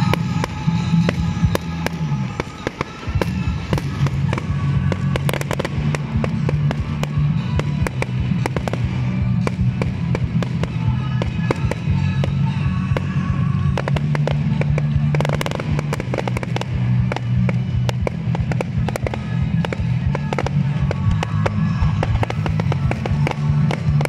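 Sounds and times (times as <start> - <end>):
firework bangs and crackles: 0.0 - 24.0
music: 0.0 - 24.0.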